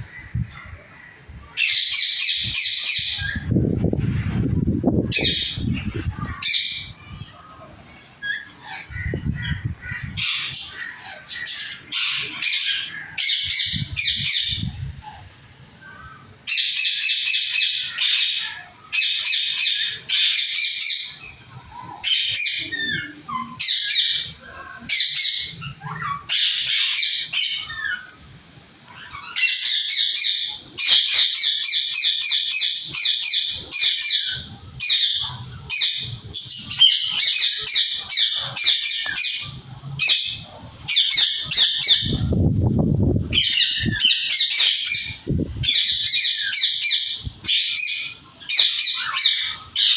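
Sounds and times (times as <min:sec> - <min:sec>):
parrots squawking and chattering: 0:00.0 - 0:49.9.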